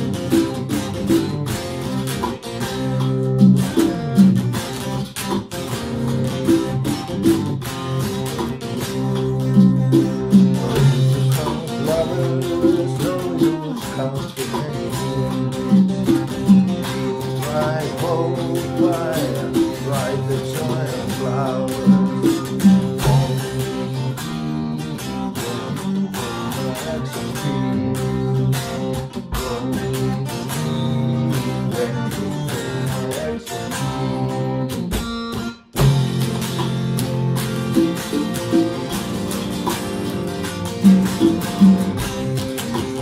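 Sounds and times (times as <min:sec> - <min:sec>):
electric guitar with bent sliding notes: 0:00.0 - 0:43.0.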